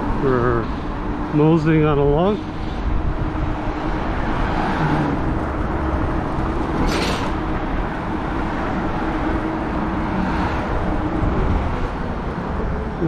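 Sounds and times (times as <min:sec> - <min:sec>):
road rumble: 0:00.0 - 0:13.0
wind noise: 0:02.4 - 0:13.0.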